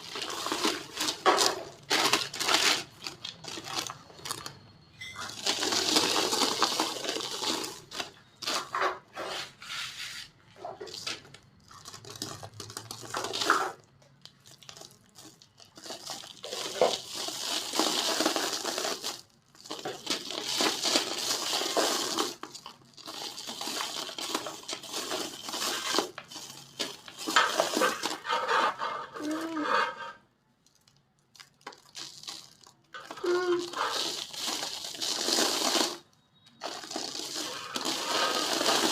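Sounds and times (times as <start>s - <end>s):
cement bowls crunching: 0.0s - 38.9s.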